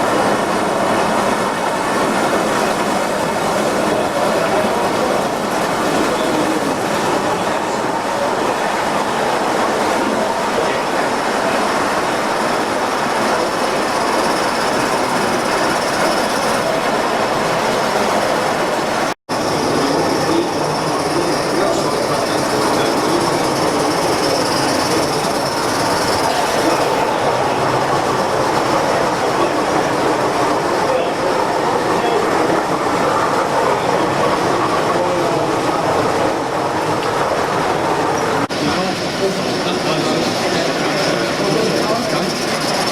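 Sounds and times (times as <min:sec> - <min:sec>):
train rushing: 0:00.0 - 0:42.9.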